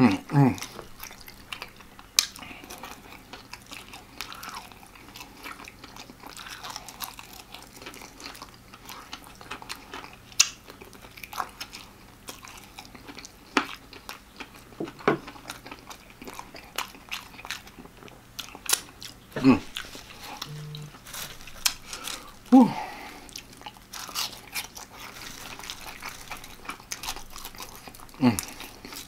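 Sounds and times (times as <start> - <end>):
chewing crispy fried chicken: 0.0 - 29.0.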